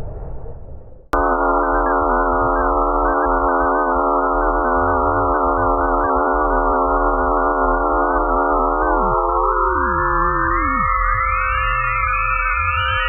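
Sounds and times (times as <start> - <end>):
low hum: 0.0 - 13.0
electronic drone chord: 1.2 - 13.0.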